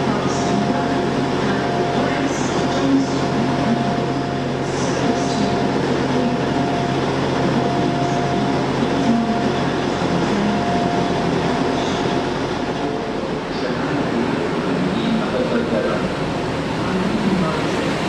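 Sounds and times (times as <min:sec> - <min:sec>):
diesel train engine drone: 0:00.0 - 0:18.0.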